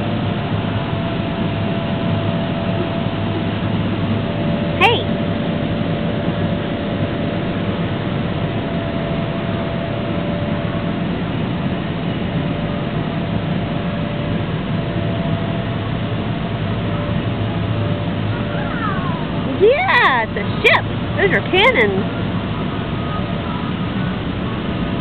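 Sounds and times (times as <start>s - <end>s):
electric air blowers droning: 0.0s - 25.0s.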